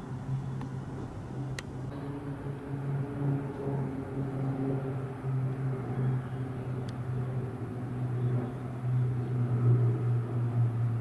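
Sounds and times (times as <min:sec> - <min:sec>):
propeller aircraft droning overhead: 0:00.0 - 0:11.0.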